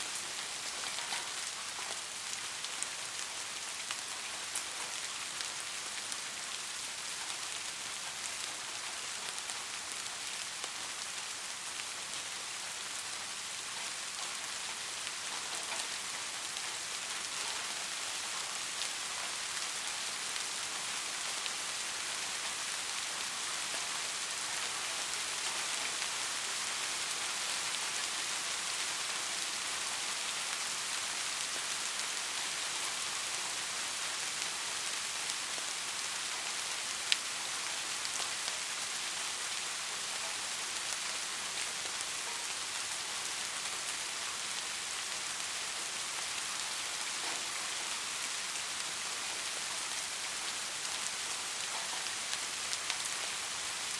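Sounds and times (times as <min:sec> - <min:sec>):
rain falling on hard surface: 0:00.0 - 0:53.9.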